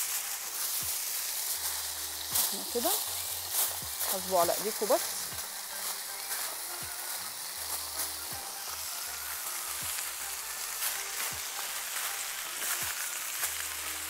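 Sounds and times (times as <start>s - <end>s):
fish sizzling in hot pans: 0.0s - 14.0s.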